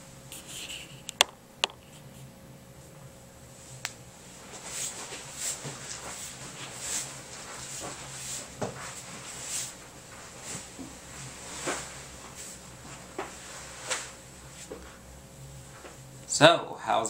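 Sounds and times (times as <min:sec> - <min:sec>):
steady electrical buzz: 0:00.0 - 0:17.0.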